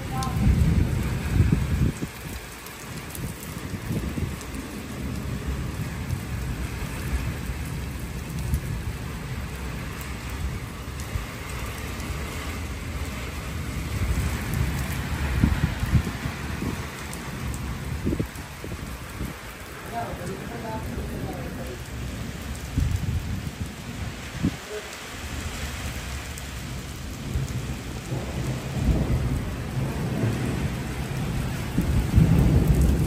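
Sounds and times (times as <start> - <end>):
rain falling on pavement and trees: 0.0 - 33.0
thunder rumbling: 0.0 - 33.0.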